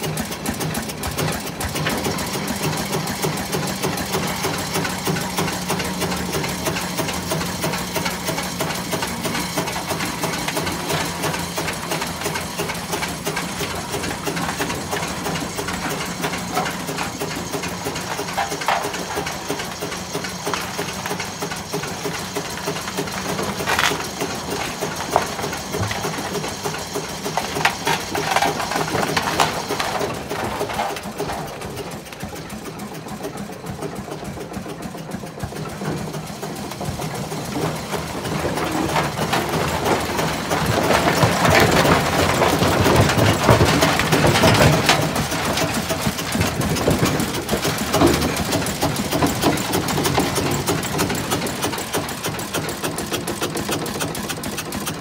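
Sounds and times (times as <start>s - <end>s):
road roller diesel engine clatter: 0.0s - 55.0s.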